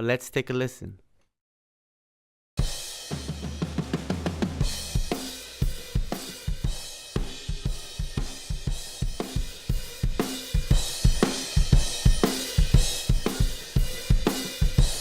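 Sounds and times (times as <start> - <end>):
drum kit playing groove: 2.6 - 15.0.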